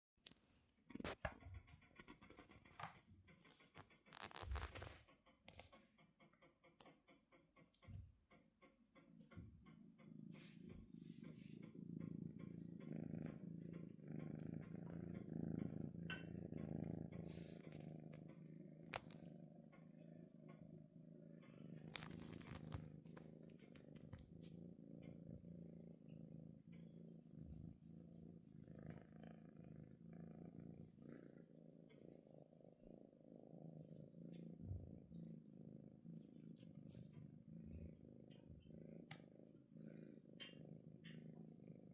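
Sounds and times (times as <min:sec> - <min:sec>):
cat purring: 0:00.8 - 0:41.9.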